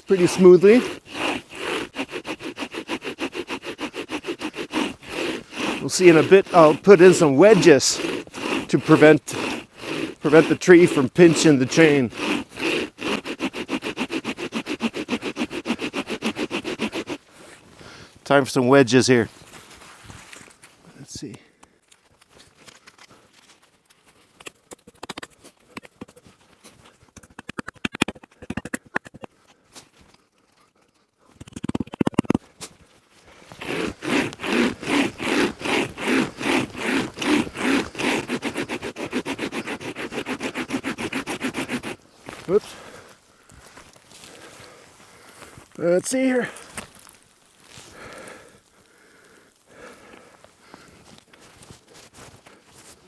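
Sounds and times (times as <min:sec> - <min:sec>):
chain saw sawing through tree trunk: 0:00.0 - 0:21.5, 0:24.2 - 0:53.0.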